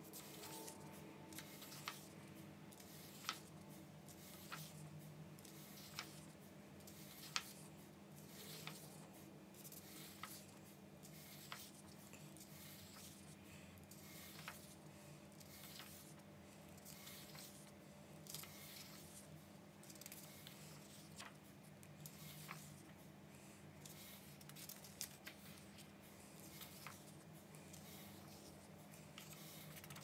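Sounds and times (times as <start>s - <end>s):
low steady hum: 0.0s - 30.0s
book pages turning: 0.2s - 2.2s, 2.8s - 4.8s, 5.4s - 6.3s, 6.9s - 9.0s, 9.7s - 13.3s, 13.9s - 14.8s, 15.4s - 16.2s, 16.8s - 19.2s, 19.8s - 23.0s, 23.8s - 30.0s.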